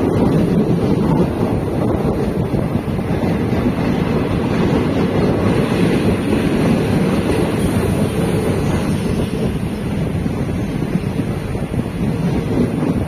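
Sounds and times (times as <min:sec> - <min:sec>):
moving train rumble: 0:00.0 - 0:13.0
wind buffeting microphone: 0:00.0 - 0:13.0.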